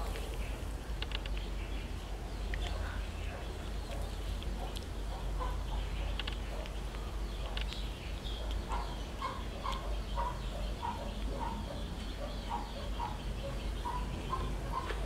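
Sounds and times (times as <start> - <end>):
low steady hum: 0.0 - 15.0
chicken clucking: 2.6 - 15.0.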